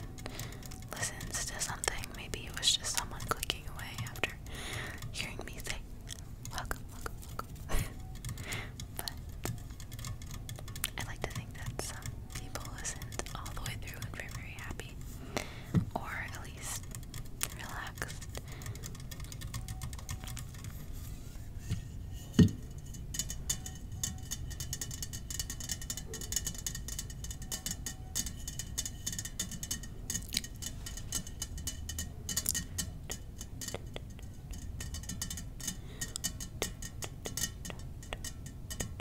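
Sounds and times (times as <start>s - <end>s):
tapping on small glass bottles: 0.0s - 20.9s, 21.7s - 39.0s.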